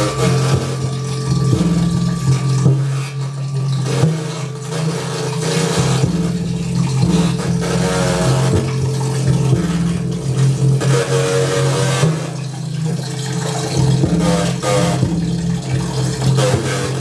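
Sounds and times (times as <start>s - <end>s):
experimental electronic music: 0.0s - 17.0s.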